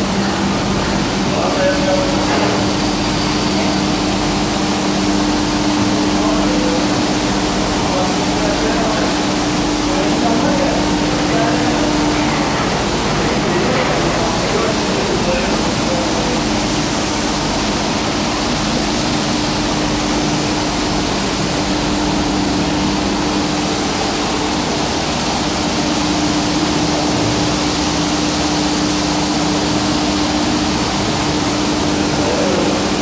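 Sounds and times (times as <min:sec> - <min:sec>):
carpet washing machine running: 0:00.0 - 0:33.0
rushing water: 0:00.0 - 0:33.0.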